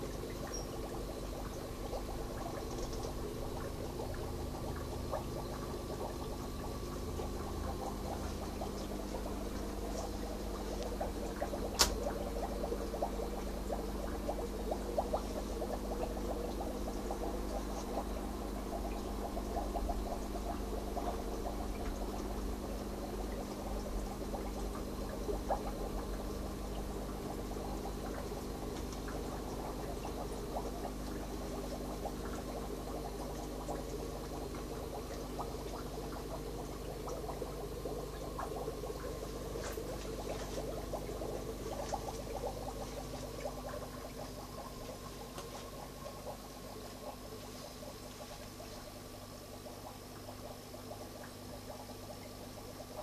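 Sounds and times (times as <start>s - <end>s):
steady low hum: 0.0s - 53.0s
water trickling and gurgling: 0.0s - 53.0s.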